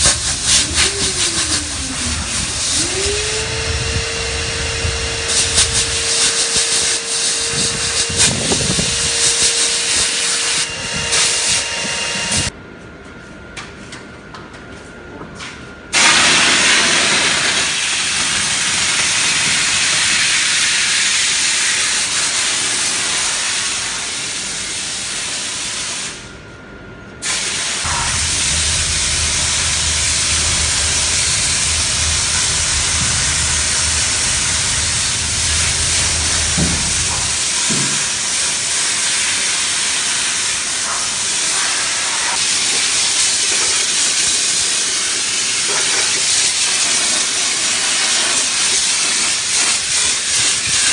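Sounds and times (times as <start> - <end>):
steam spray wand hissing: 0.0 - 12.5, 16.0 - 26.2, 27.2 - 50.9.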